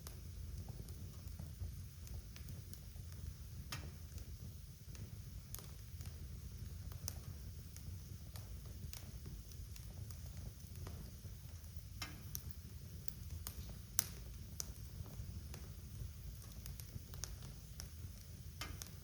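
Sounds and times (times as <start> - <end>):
low steady rumble: 0.0 - 19.0
wood fire crackling: 0.0 - 19.0.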